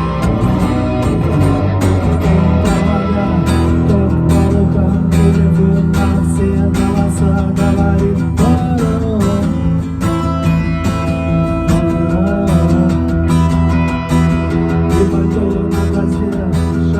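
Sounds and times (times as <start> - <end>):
strummed guitar music: 0.0 - 16.9.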